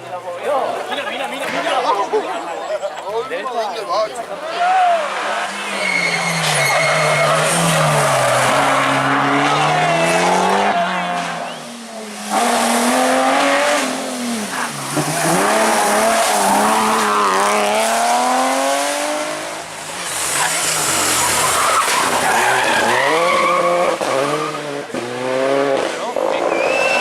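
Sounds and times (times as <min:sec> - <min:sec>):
tyres skidding: 0:00.0 - 0:27.0
rally car engine revving: 0:04.6 - 0:27.0.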